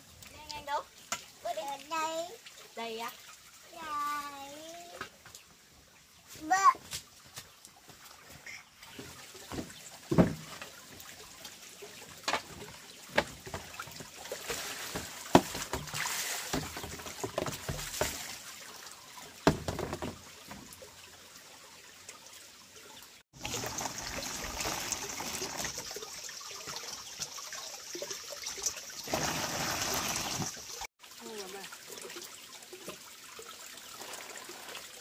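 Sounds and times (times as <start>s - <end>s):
water flowing: 0.0s - 35.0s
water trickling and splashing: 0.0s - 35.0s.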